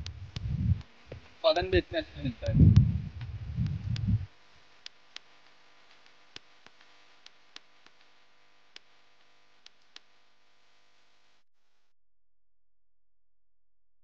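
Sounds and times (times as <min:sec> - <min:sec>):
faint steady hiss: 0:00.0 - 0:11.4.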